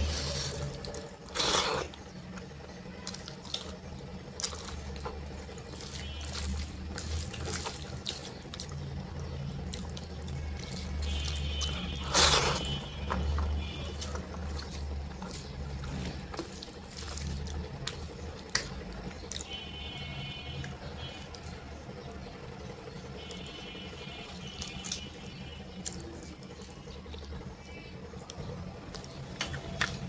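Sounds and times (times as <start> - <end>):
wet chewing and smacking: 0.0 - 19.6, 24.5 - 27.4, 28.1 - 30.0
low steady hum: 0.0 - 30.0.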